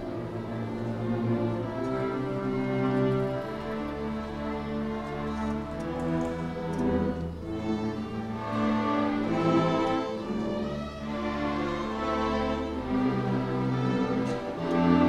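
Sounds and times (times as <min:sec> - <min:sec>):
string orchestra playing: 0:00.0 - 0:15.0.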